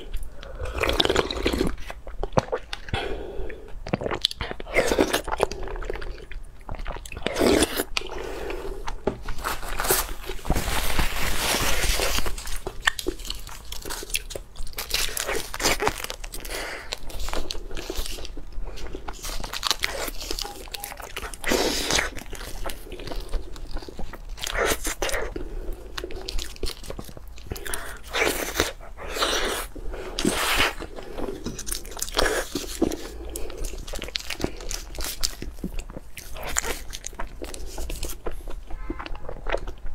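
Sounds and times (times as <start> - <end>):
person crunching food: 0.0 - 39.9.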